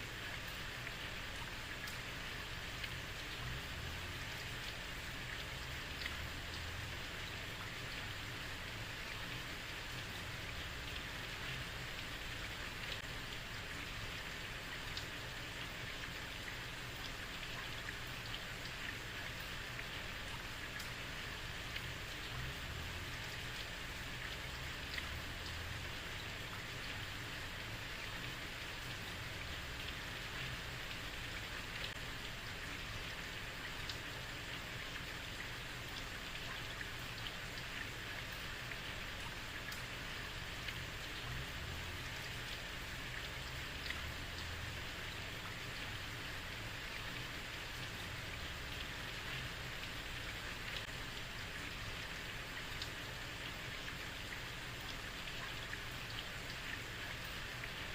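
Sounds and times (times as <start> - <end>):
heavy rain on street: 0.0 - 57.9
raindrop splashes: 0.0 - 57.9.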